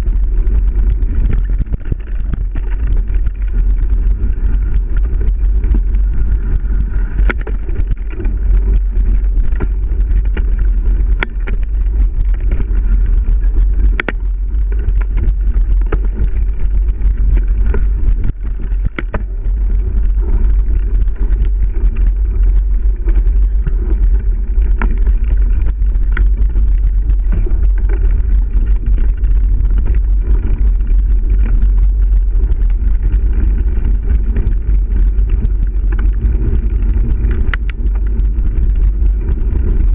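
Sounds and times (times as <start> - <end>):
bike clicks and knocks: 0.0 - 39.9
wind buffeting microphone: 0.0 - 39.9.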